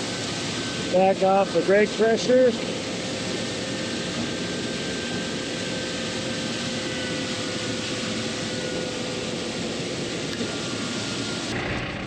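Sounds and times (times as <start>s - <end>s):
faint machine whines: 0.0s - 12.0s
tractor running grain bagger: 0.0s - 12.0s.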